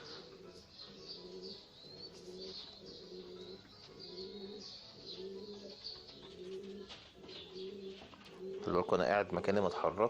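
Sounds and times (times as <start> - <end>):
pigeons cooing: 0.0 - 10.0
small birds chirping: 0.0 - 10.0.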